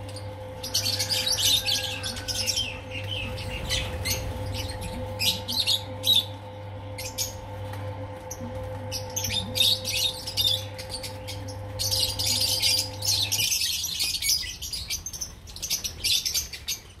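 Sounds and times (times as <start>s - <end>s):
low hum: 0.0s - 16.8s
lovebirds chirping: 0.0s - 17.0s.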